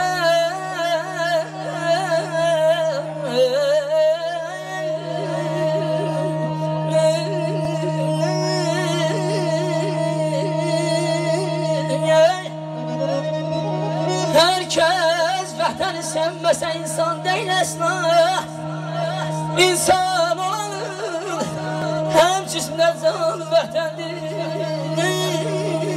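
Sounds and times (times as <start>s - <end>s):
instrumental accompaniment: 0.0s - 25.9s
man singing ornamented phrases: 0.0s - 25.9s.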